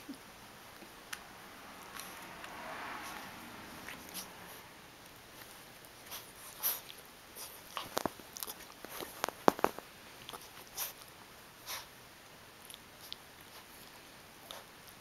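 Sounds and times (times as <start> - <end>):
puppy licking and nibbling: 1.8 - 12.0, 12.6 - 15.0.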